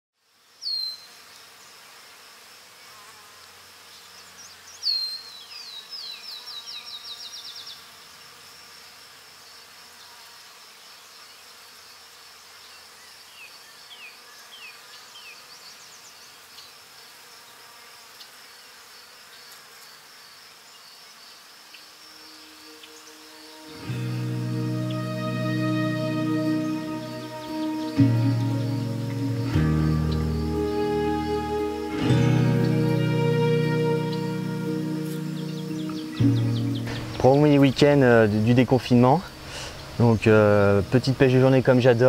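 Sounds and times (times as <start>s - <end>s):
insects buzzing and chirping: 0.2s - 42.0s.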